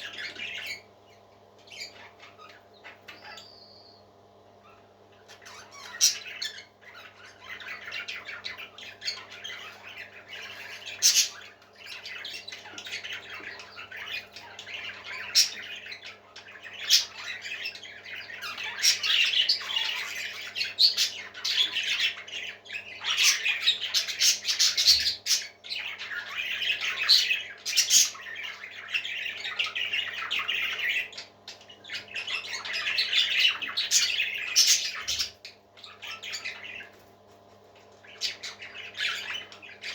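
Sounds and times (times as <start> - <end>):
parrot chicks squawking: 0.0 - 39.9.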